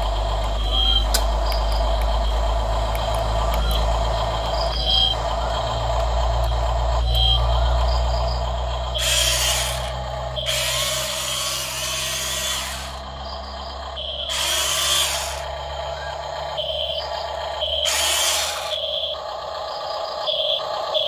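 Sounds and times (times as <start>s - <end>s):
electric gear motors whirring: 0.0s - 19.8s
steady low hum: 0.0s - 21.0s.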